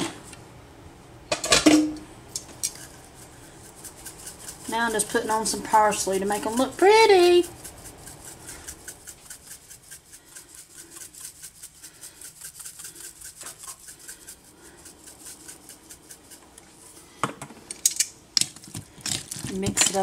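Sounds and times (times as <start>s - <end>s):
spice jar shaking: 2.5s - 17.2s, 17.9s - 20.0s.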